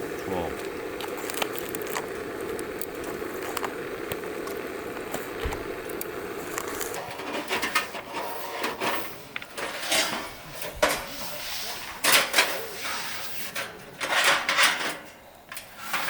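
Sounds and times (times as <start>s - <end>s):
stew bubbling in a pot: 0.0s - 14.0s.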